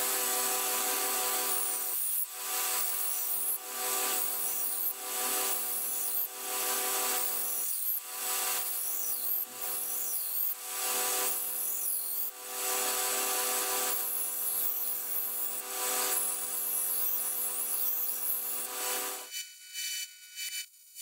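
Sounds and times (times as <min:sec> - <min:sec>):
belt grinder humming: 0:00.1 - 0:19.2
steel grinding on belt: 0:01.1 - 0:19.2.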